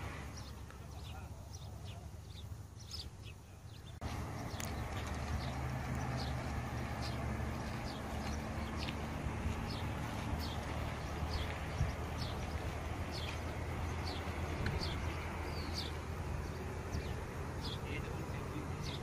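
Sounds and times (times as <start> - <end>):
small bird chirping: 0.2 - 19.0
steady low rumble: 3.4 - 18.9.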